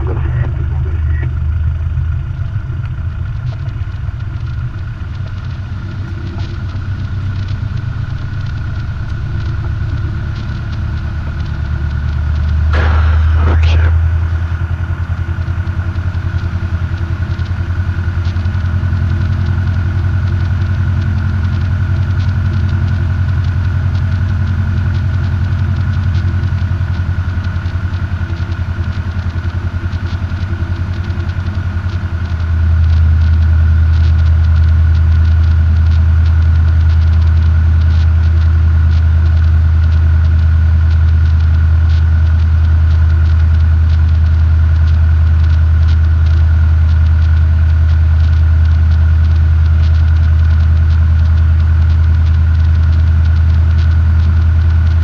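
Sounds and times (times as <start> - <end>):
aircraft engine and propeller: 0.0 - 55.0.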